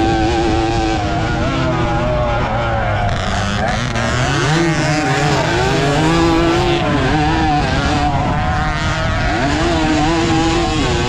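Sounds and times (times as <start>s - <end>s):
motorcycle engine revving: 0.0s - 11.0s
rushing wind: 0.0s - 11.0s.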